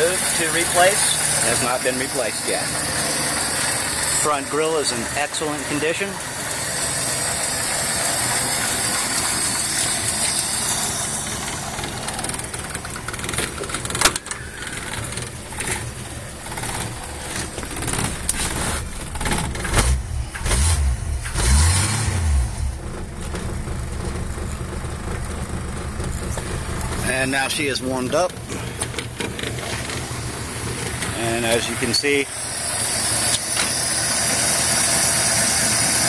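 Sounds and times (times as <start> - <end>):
car engine running: 0.0 - 36.0
engine revving: 0.0 - 36.0.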